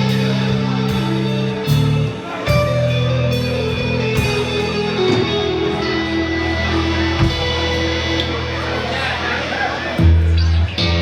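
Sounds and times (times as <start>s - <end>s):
bass line: 0.0s - 11.0s
guitar: 0.0s - 11.0s
live band music: 0.0s - 11.0s.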